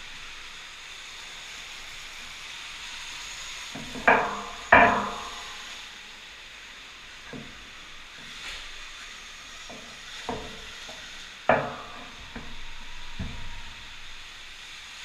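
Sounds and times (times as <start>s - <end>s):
electric dirt bike hiss: 0.0s - 15.0s.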